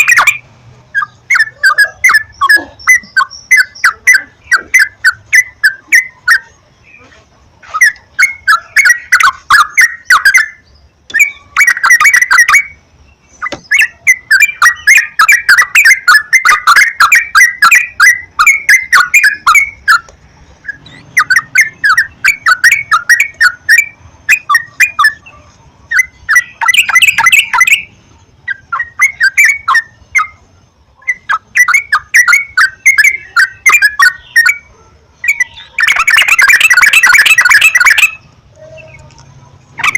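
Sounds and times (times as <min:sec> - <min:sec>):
bulbuls singing: 0:00.0 - 0:39.9.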